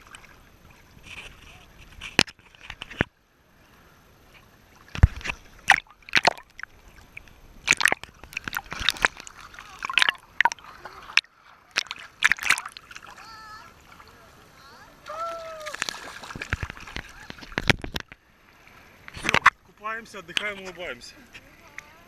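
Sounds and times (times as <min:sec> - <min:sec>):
sea water splashing: 0:00.0 - 0:22.0.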